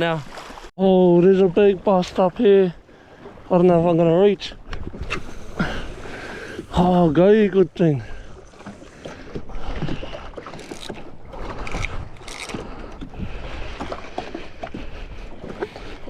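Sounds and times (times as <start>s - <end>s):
water noise: 0.0s - 16.0s.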